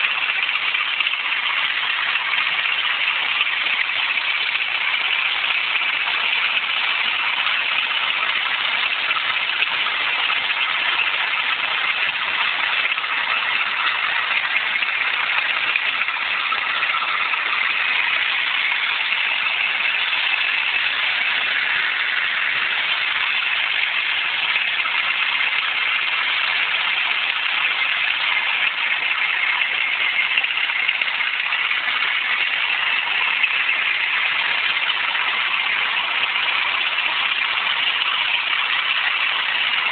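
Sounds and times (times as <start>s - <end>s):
steady grinding noise: 0.0s - 39.9s.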